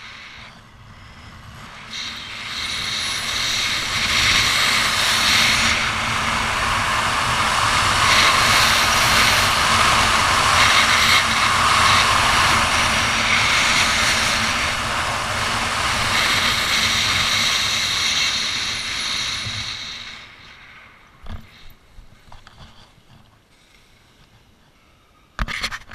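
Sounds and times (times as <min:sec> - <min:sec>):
wind rushing over microphone: 0:00.0 - 0:22.7.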